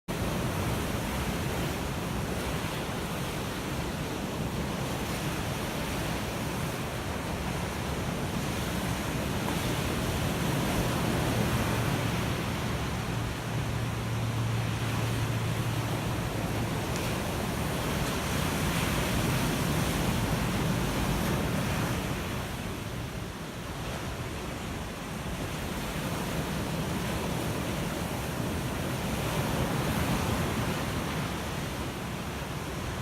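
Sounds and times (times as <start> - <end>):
ocean waves breaking on shore: 0.1 - 33.0.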